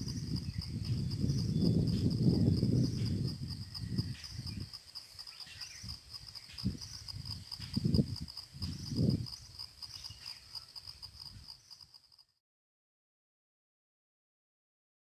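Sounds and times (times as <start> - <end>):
crickets trilling: 0.0 - 12.3.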